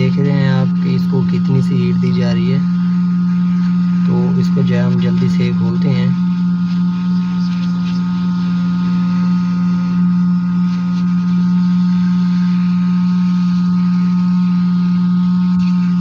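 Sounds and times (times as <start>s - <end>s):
constant low hum: 0.0s - 16.0s
hot-air station blowing: 0.0s - 16.0s.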